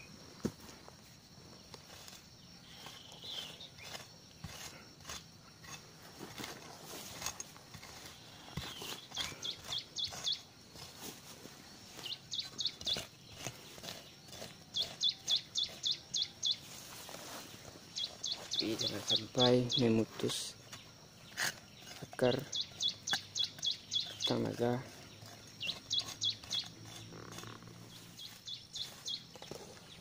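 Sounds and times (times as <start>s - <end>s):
hand tool scraping stony soil: 0.4s - 30.0s
small bird chirping: 1.5s - 5.8s, 7.2s - 30.0s.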